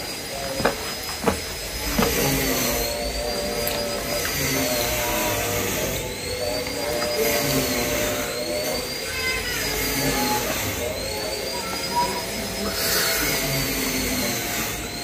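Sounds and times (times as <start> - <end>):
high whine: 0.0 - 15.0
machine whirring hum: 0.0 - 15.0.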